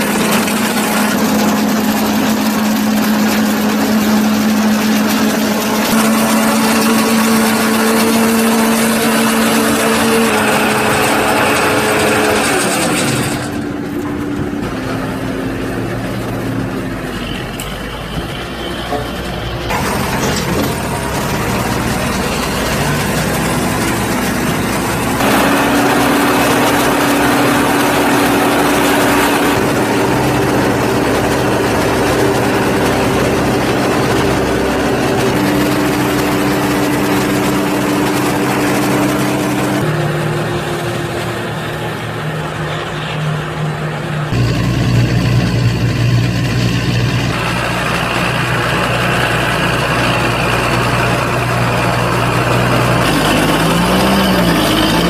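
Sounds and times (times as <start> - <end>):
tractor diesel engine drone: 0.0 - 55.0.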